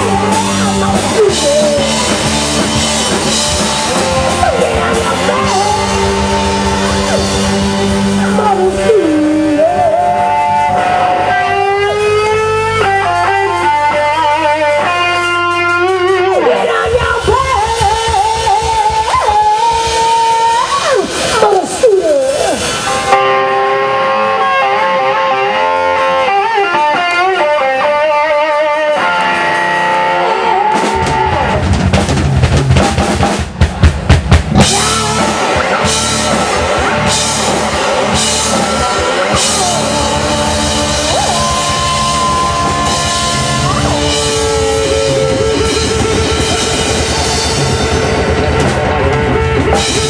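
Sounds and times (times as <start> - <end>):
bass guitar: 0.0 - 50.0
drums: 0.0 - 50.0
electric guitar bending notes: 0.0 - 50.0
rock band playing: 0.0 - 50.0.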